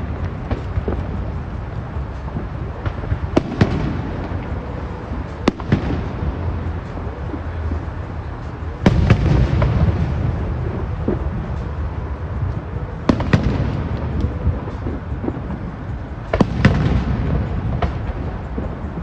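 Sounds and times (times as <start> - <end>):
fireworks bursting with sharp bangs: 0.0 - 19.0
low rumble of echoing reports: 0.0 - 19.0.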